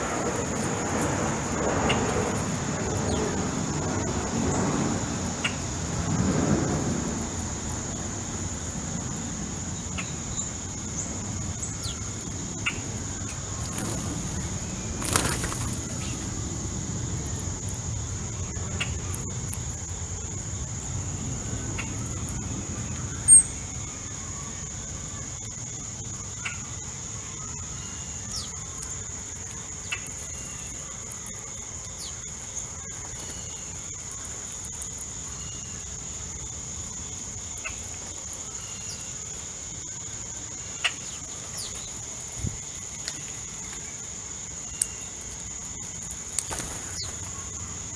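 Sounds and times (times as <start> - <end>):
high-pitched insect-like hum: 0.0 - 47.9.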